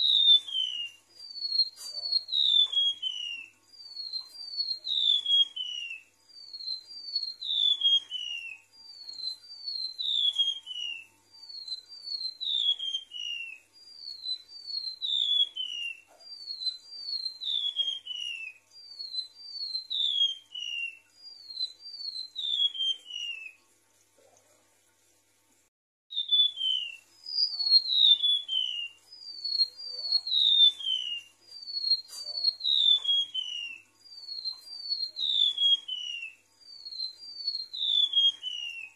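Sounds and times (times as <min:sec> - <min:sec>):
bird singing high whistles: 0:00.0 - 0:23.6, 0:26.1 - 0:38.9.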